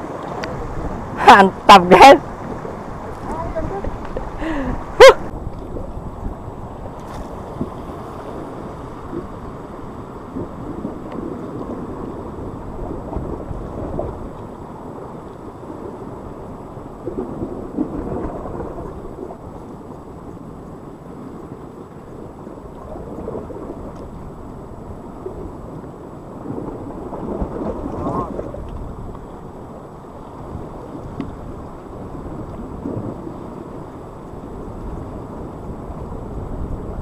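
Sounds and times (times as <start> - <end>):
sea surf washing against rocks: 0.0 - 37.0
wind rumble on microphone: 0.0 - 37.0.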